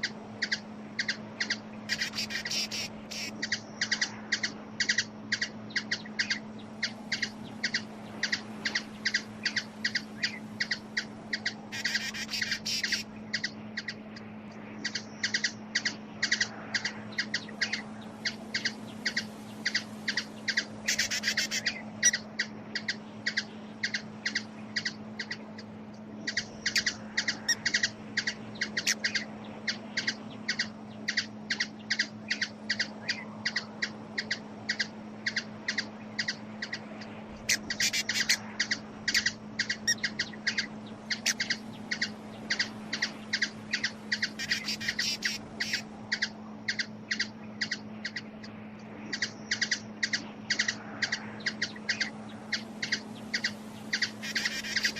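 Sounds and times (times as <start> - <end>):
hummingbird chip calls: 0.0 - 14.1, 14.8 - 36.8, 37.4 - 48.5, 49.1 - 54.9
steady low hum: 0.0 - 54.9.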